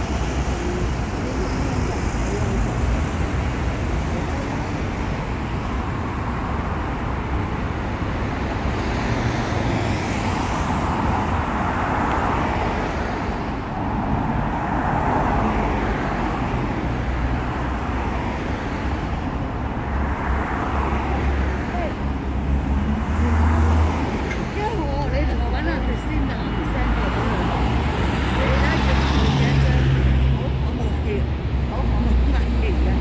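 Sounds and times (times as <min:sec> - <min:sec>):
cars passing on street: 0:00.0 - 0:33.0.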